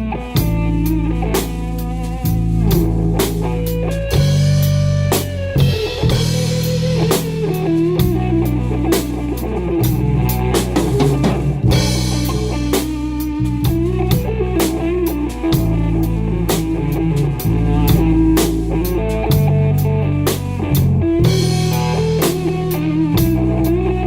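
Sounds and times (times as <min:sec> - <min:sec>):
band playing: 0:00.0 - 0:24.0
drum kit beat: 0:00.0 - 0:24.0.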